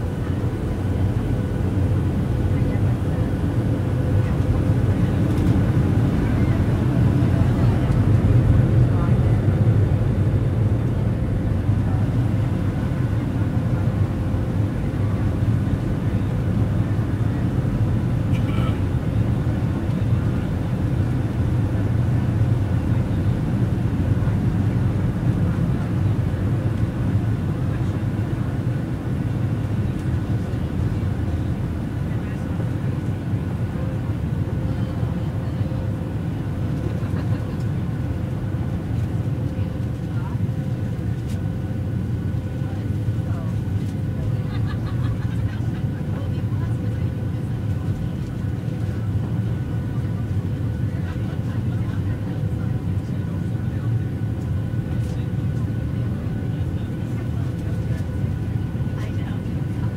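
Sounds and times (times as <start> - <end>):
jet engines low rumble: 0.0 - 59.9.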